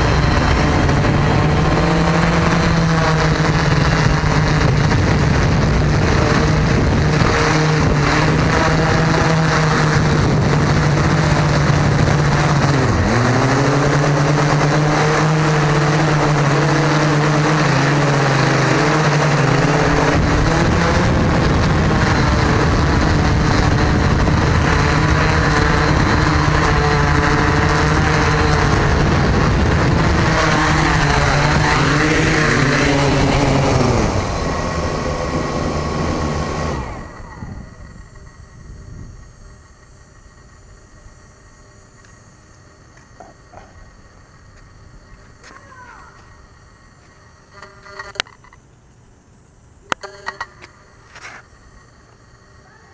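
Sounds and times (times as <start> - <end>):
drone propellers buzzing: 0.0 - 48.6.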